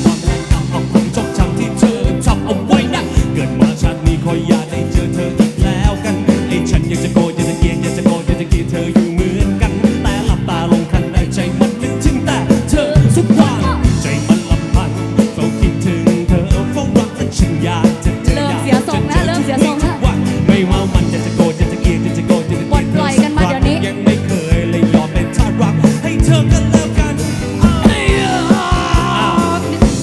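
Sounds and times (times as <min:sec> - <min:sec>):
drum kit steady beat: 0:00.0 - 0:30.0
man singing: 0:00.0 - 0:30.0.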